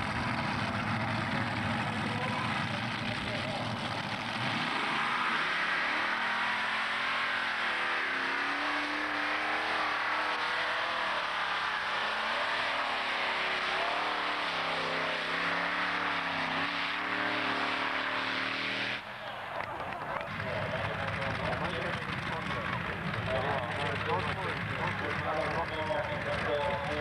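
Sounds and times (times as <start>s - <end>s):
tractor engine at full throttle: 0.0s - 27.0s.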